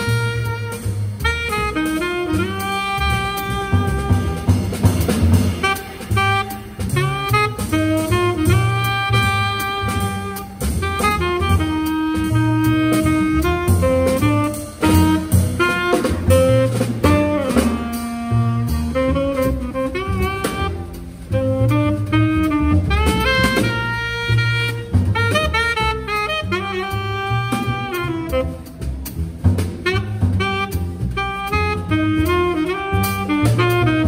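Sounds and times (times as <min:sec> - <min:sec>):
tenor saxophone melody: 0:00.0 - 0:29.2, 0:29.8 - 0:34.0
drum kit and cymbals: 0:00.0 - 0:34.0
walking double bass: 0:00.0 - 0:34.0.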